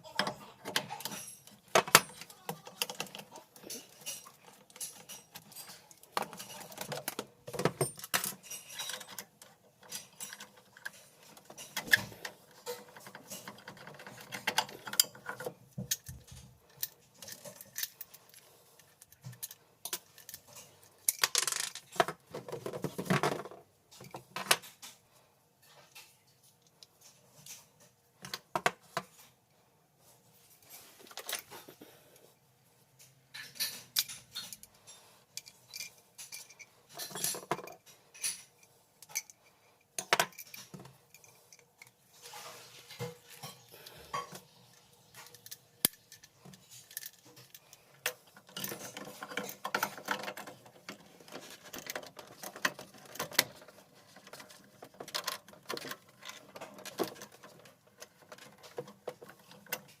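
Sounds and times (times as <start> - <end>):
tools and metal parts clinking: 0.0 - 25.0, 30.6 - 31.7, 32.9 - 60.0.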